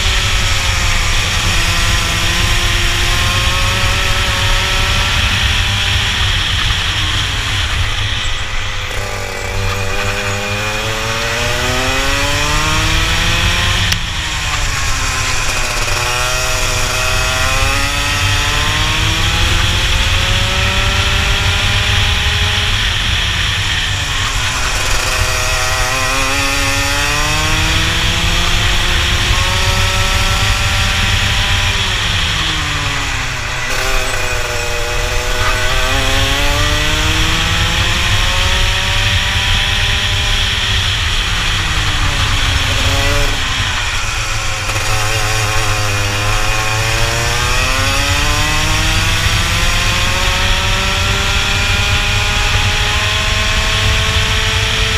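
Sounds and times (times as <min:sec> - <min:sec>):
kart engine racing: 0:00.0 - 0:54.9.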